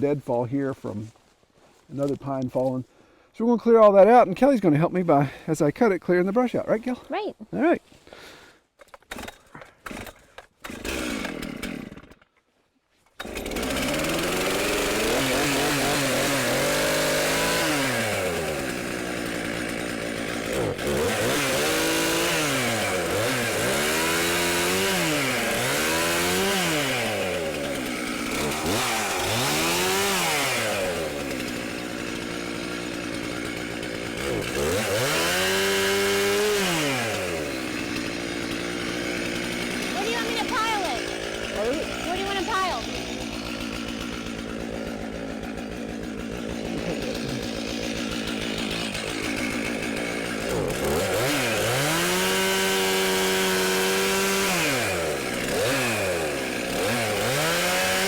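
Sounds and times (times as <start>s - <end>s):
chainsaw revving and cutting: 9.1s - 12.4s, 13.2s - 58.0s.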